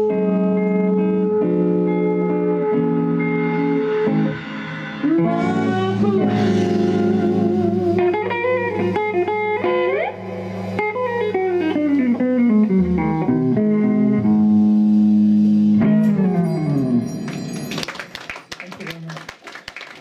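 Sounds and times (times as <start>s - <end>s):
bass guitar: 0.0s - 17.5s
live blues band: 0.0s - 17.5s
electric guitar notes: 0.0s - 17.6s.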